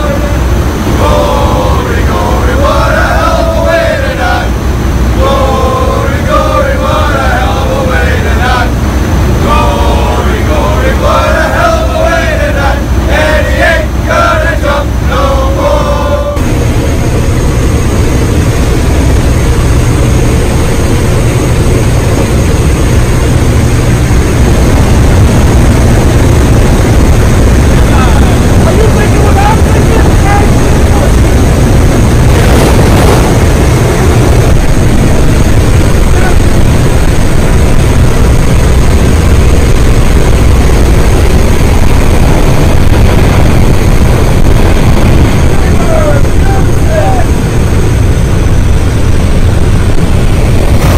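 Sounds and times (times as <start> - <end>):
aircraft engine drone in cabin: 0.0 - 50.9
wind rushing: 0.0 - 50.9.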